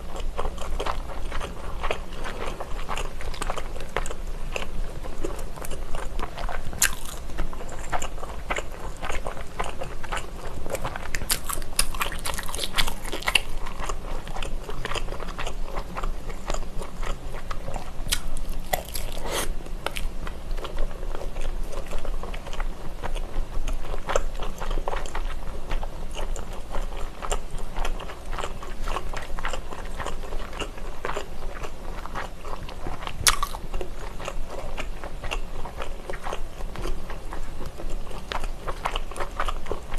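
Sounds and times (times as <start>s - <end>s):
moist chewing: 0.2s - 39.8s.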